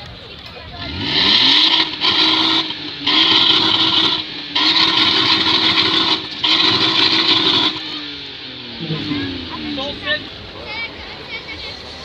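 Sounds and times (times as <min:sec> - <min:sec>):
car exhaust revving: 0:00.7 - 0:12.0.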